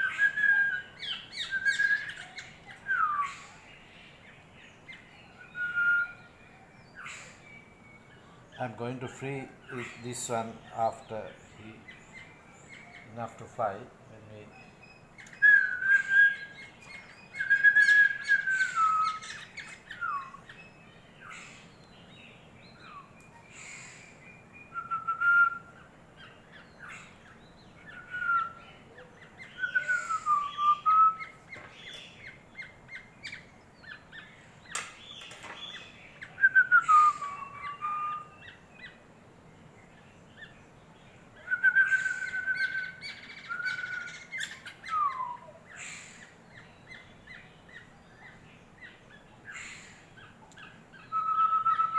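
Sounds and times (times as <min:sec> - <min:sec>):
young birds whistled calls: 0:00.0 - 0:04.2, 0:04.8 - 0:13.8, 0:14.4 - 0:39.0, 0:41.4 - 0:51.9.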